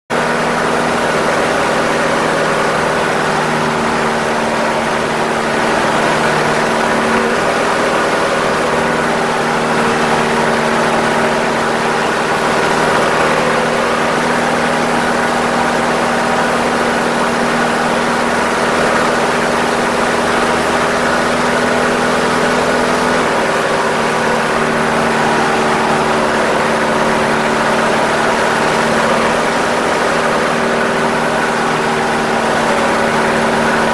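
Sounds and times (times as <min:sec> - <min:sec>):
aircraft engine and propeller: 0:00.1 - 0:33.9.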